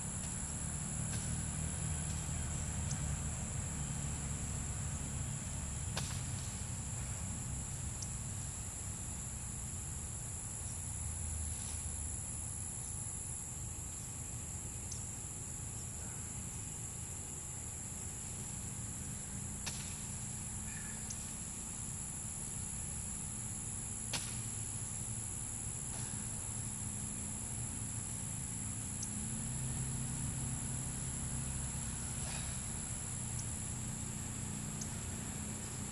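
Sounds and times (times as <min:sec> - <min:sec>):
insects trilling: 0:00.0 - 0:35.9
low steady rumble: 0:00.0 - 0:35.9.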